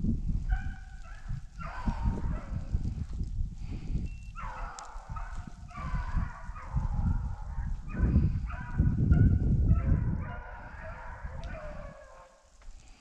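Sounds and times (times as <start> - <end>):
hounds baying: 0.5 - 3.0, 4.3 - 12.5.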